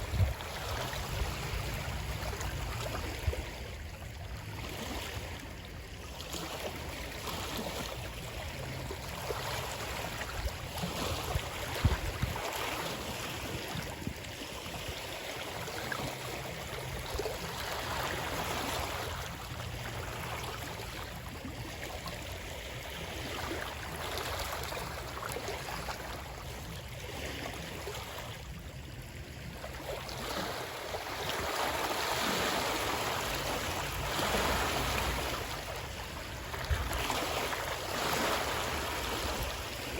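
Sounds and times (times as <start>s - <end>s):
moving water washing: 0.0s - 39.9s.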